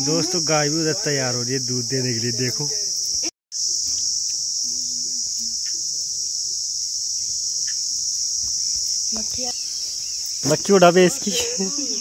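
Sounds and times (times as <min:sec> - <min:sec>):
cricket chorus chirring: 0:00.0 - 0:12.0.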